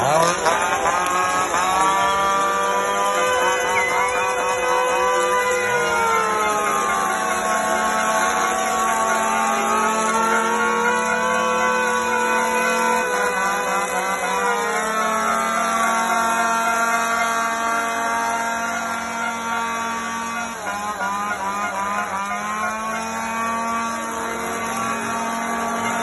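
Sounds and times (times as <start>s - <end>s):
chainsaws revving: 0.0s - 26.0s.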